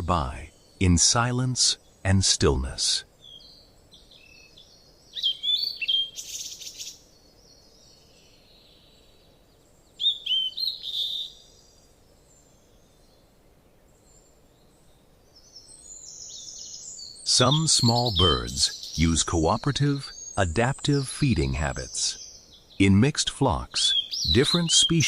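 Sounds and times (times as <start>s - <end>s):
faint steady hiss: 0.0s - 25.0s
songbird chirping: 0.0s - 25.0s.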